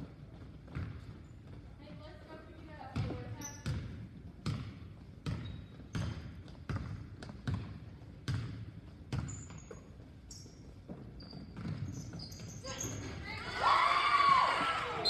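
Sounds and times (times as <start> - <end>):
basketball bouncing on gym floor: 0.0 - 13.4.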